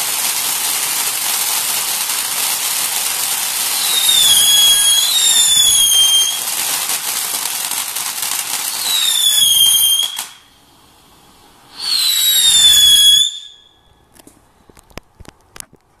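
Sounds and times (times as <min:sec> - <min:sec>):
firework whistles: 0:00.0 - 0:14.2
firework fountain gushing and crackling: 0:00.0 - 0:16.0.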